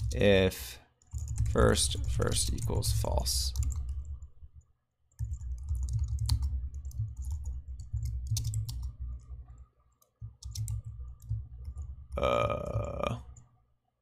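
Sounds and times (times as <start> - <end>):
computer keyboard typing: 0.0 - 0.4, 1.0 - 4.3, 5.1 - 13.5.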